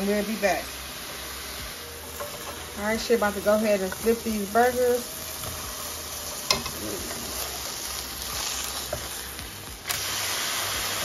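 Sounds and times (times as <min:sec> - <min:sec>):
burger patties sizzling in pan: 0:00.0 - 0:11.0.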